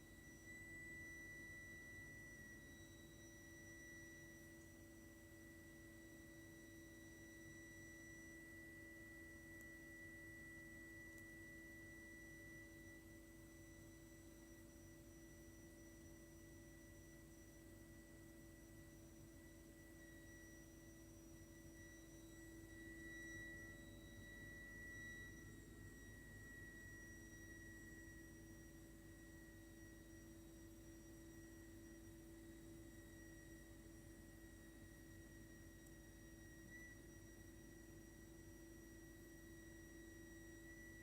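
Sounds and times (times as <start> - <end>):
high-pitched heating system whine: 0.0 - 41.0
low steady hum: 0.0 - 41.0.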